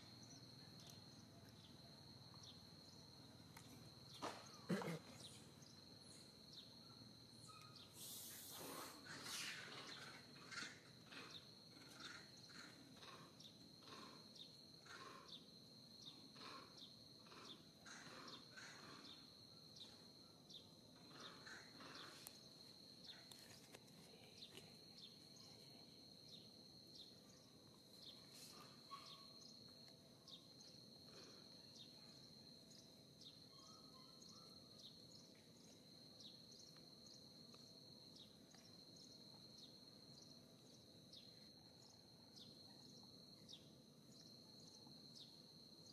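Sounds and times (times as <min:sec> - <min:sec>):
high-pitched insect trill: 0:00.0 - 0:45.9
short insect chirps: 0:00.0 - 0:45.9.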